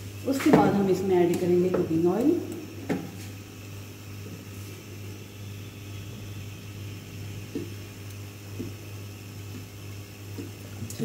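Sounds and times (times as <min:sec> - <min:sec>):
gas burner humming and hissing: 0:00.0 - 0:11.0.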